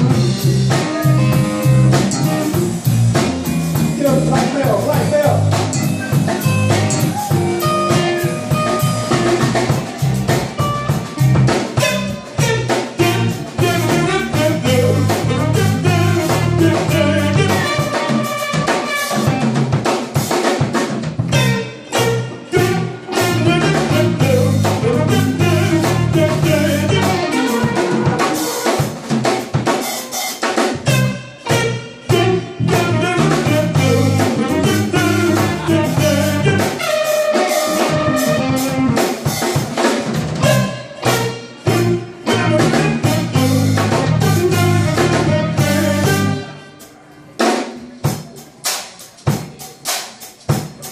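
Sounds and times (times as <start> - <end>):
drum kit hits: 0.0 - 46.5
soul band playing: 0.0 - 50.9
trumpet: 3.9 - 20.3, 21.3 - 47.0.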